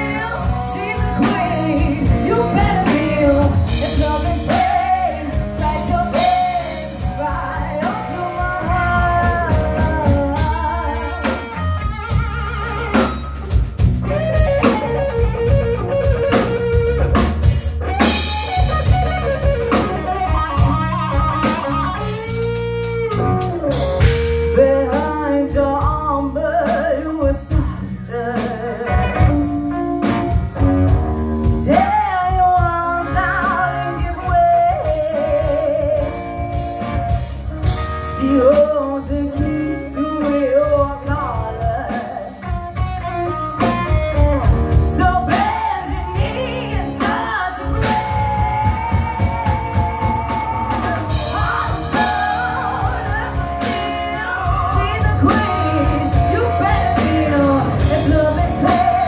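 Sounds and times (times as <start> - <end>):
woman singing: 0.0 - 13.3, 24.4 - 59.0
live rock band playing: 0.0 - 59.0.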